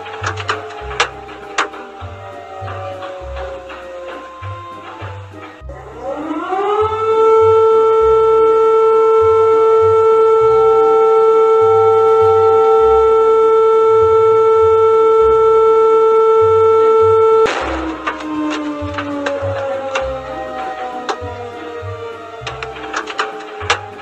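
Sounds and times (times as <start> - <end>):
emergency alarm siren: 0.0 - 24.0
faint background music beat: 0.0 - 24.0.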